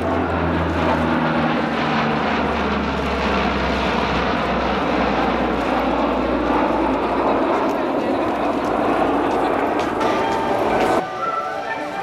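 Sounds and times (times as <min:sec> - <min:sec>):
turboprop aircraft droning: 0:00.0 - 0:12.0.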